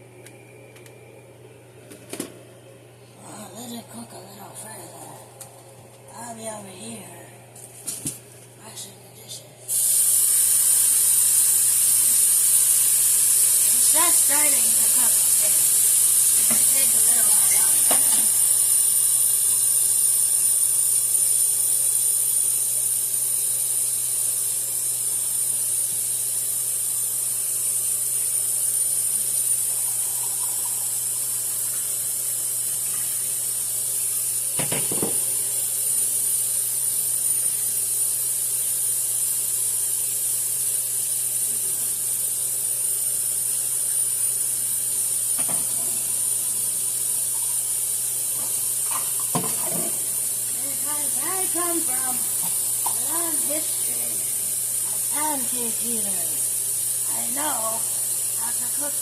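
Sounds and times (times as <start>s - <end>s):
pancakes sizzling in a pan: 9.7s - 59.0s.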